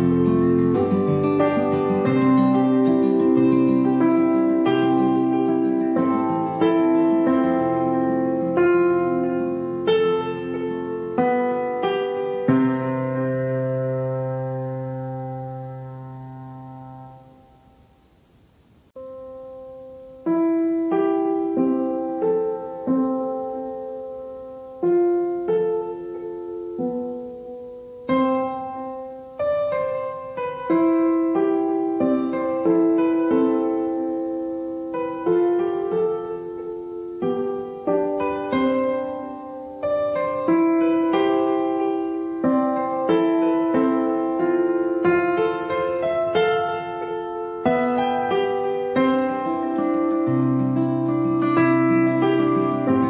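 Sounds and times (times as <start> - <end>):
slow gentle piano music: 0.0 - 18.0, 18.9 - 53.0.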